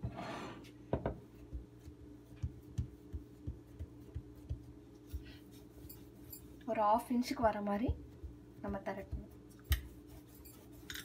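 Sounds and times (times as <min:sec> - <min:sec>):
hand patting dough on counter: 0:00.9 - 0:10.8.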